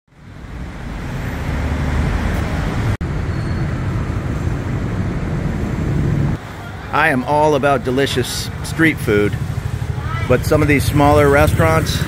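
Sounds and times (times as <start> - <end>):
road traffic rumble: 0.1 - 12.0.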